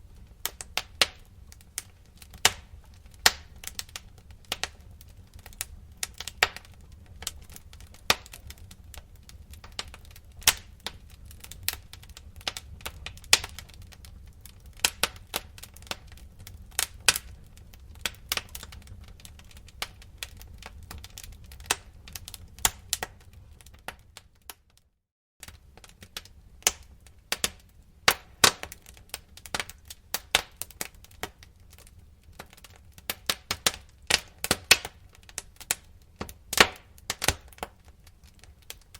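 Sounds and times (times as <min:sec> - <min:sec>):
low fire rumble: 0:00.0 - 0:24.6, 0:25.4 - 0:38.9
wood fire crackling: 0:00.0 - 0:38.9.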